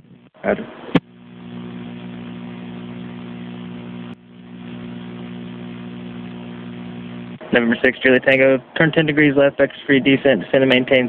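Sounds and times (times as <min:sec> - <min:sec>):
radio hum and hiss: 0:00.0 - 0:11.0.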